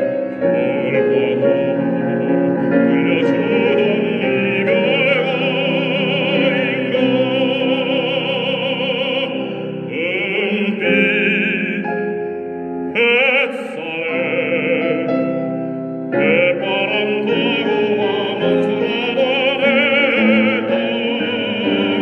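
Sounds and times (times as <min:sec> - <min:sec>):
baritone singing operatic style: 0:00.0 - 0:22.0
instrumental accompaniment: 0:00.0 - 0:22.0.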